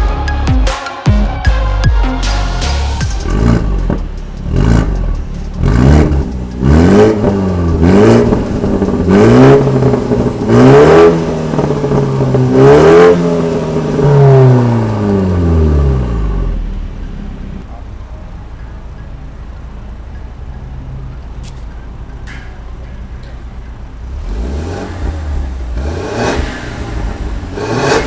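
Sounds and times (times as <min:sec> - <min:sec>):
car engine revving: 0:02.2 - 0:28.0.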